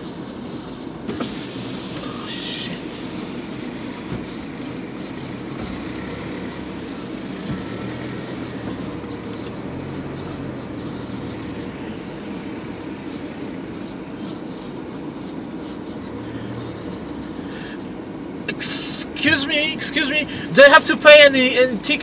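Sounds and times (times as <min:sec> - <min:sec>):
car engine humming: 0:00.0 - 0:22.0
road noise: 0:00.0 - 0:22.0.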